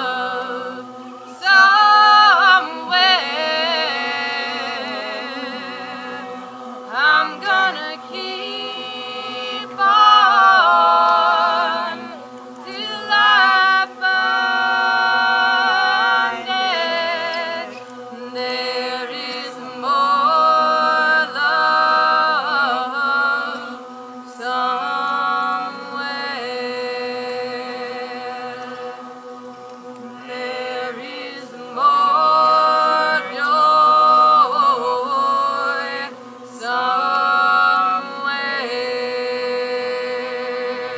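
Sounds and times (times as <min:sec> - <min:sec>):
group singing a cappella: 0:00.0 - 0:40.9.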